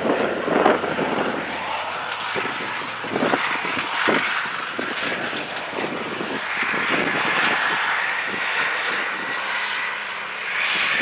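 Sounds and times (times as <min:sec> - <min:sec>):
truck engine running hard: 0:00.0 - 0:11.0.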